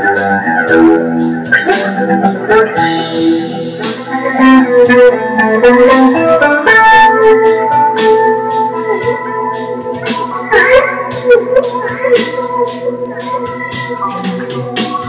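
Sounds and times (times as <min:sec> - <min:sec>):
guitar: 0:00.0 - 0:15.0
organ keyboard chords: 0:00.0 - 0:15.0
percussive beat: 0:00.0 - 0:15.0.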